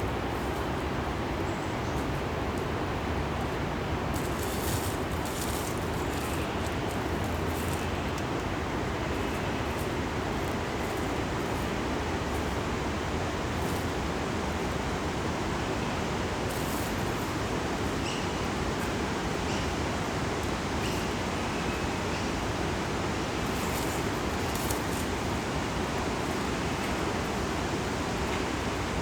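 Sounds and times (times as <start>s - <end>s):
rushing forest ambience: 0.0s - 29.0s.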